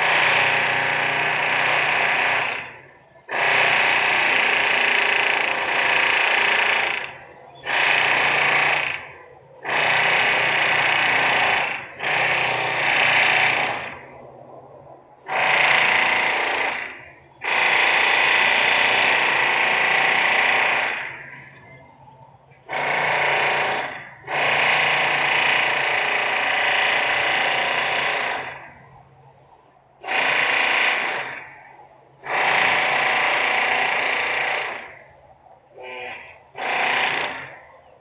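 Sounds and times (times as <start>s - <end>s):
loud industrial machine noise: 0.0s - 21.7s, 22.6s - 28.8s, 30.0s - 35.1s, 35.8s - 37.6s.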